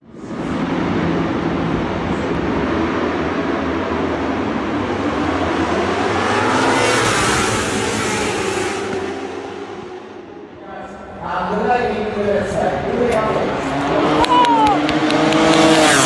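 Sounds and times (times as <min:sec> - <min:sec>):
racing motorcycles at high revs: 0:00.2 - 0:10.3, 0:12.8 - 0:16.0
motorcycle engine accelerating: 0:00.2 - 0:10.6, 0:12.6 - 0:16.0.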